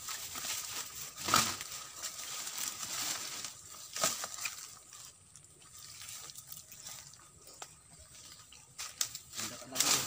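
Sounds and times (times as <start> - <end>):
rustling in leaf litter: 0.0 - 10.0.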